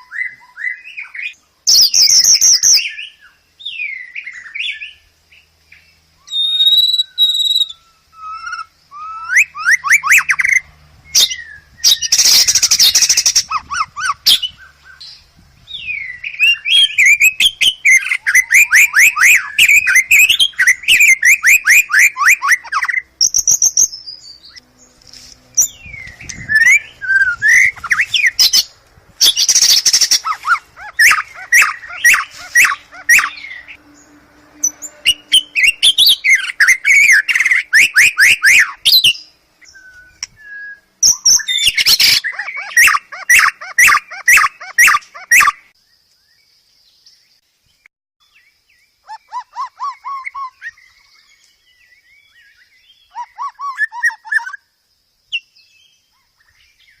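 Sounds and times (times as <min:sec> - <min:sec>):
harsh rasping bird calls: 0:00.0 - 0:45.8, 0:49.0 - 0:54.6
bird chirping trills and whistles: 0:00.0 - 0:57.0.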